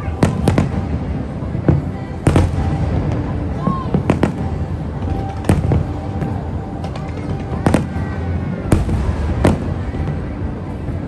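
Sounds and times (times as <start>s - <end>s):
fireworks bangs: 0.0s - 11.0s
steady background din: 0.0s - 11.0s.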